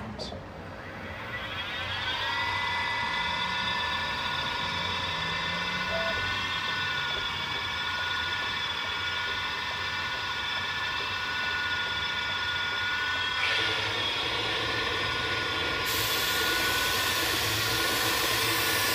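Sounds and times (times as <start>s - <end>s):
low hum: 0.0s - 18.6s
milling machine whine: 0.4s - 18.9s.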